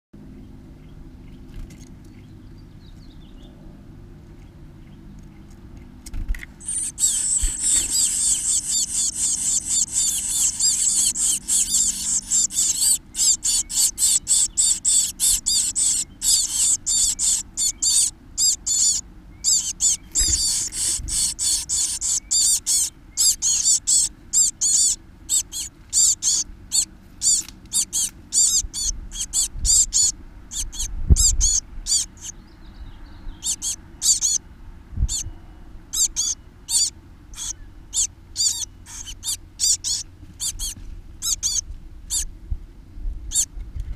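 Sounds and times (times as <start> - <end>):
nestlings peeping: 4.3 - 42.3, 43.3 - 43.5.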